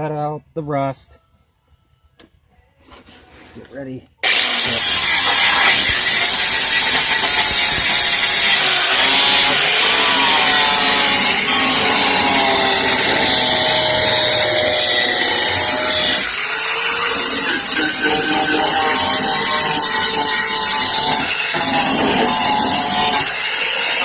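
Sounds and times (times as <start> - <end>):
power tool on sheet metal: 4.2 - 24.0.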